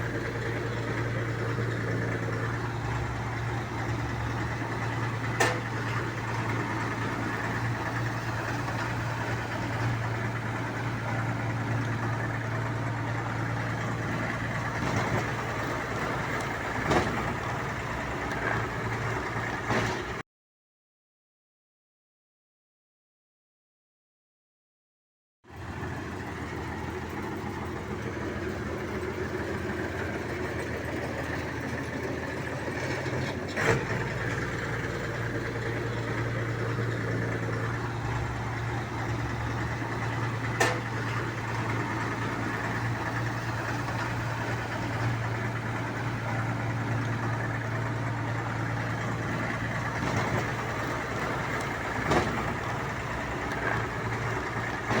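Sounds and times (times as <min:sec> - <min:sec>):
bulldozer diesel engine running: 0:00.0 - 0:20.2, 0:25.5 - 0:55.0.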